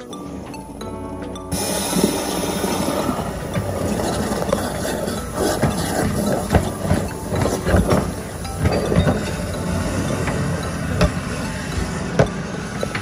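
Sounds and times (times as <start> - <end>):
water jetting in a pipe: 1.5 - 13.0.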